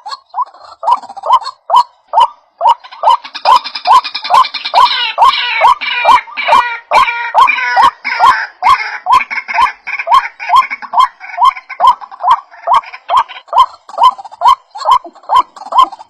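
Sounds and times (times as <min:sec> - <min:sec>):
waterhen croaking chant: 0:00.0 - 0:16.0
waterhens chattering: 0:00.0 - 0:16.0.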